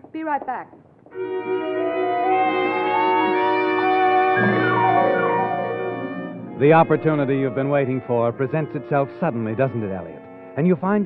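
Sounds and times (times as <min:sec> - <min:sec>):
brass chord held: 0:01.2 - 0:11.0.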